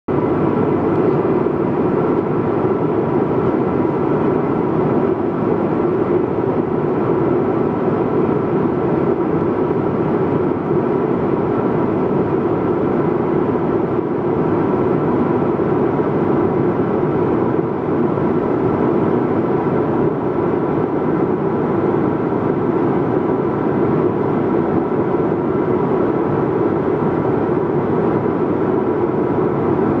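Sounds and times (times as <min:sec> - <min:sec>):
faint steady hum: 0:00.1 - 0:30.0.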